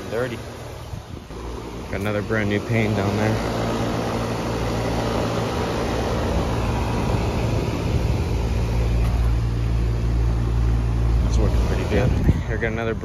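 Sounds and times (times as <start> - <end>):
compressor humming: 0.0 - 13.0
fan blowing: 0.0 - 13.0.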